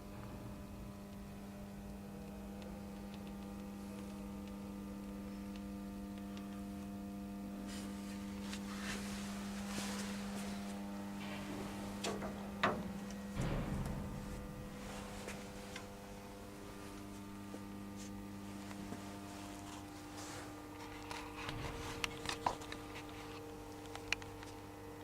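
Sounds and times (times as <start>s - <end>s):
machine humming: 0.0s - 25.0s.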